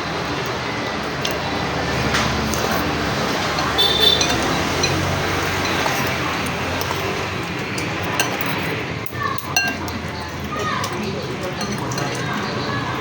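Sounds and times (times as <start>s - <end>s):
cutlery and dishes clinking: 0.4s - 13.0s.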